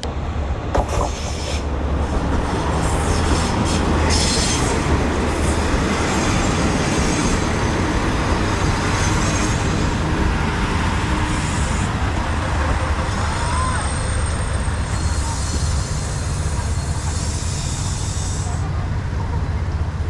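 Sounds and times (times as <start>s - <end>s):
diesel train rumbling on rails: 0.0s - 20.0s.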